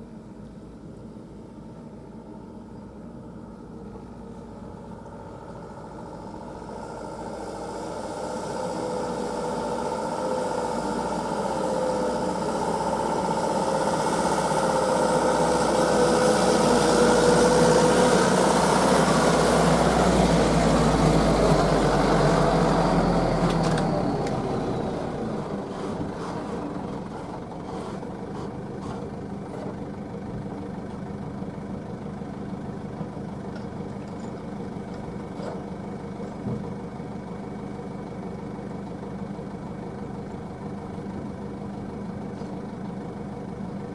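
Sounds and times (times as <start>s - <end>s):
heavy diesel engine under load: 0.0s - 43.9s.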